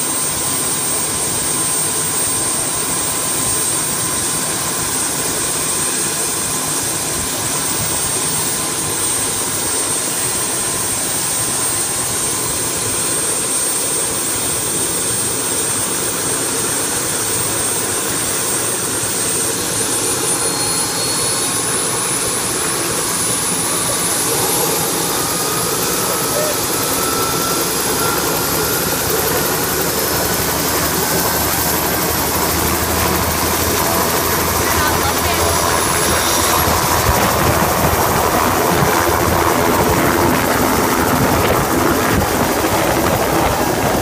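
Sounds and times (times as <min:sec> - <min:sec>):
helicopter turbine whine: 0:00.0 - 0:44.0.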